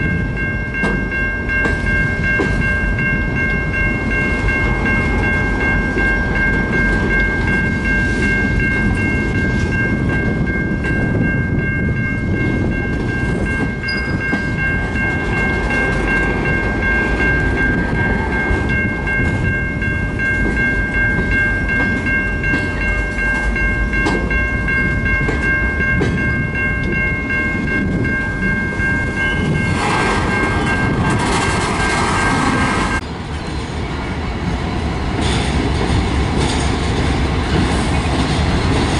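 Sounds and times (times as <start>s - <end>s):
high-pitched ringing: 0.0s - 31.2s
train rumbling past: 0.0s - 38.9s.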